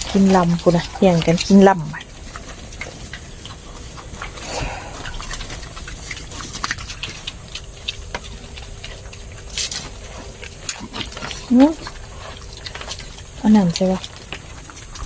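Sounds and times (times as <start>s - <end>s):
pigs chewing and smacking: 0.0s - 15.0s
rustle of feed: 0.0s - 15.0s.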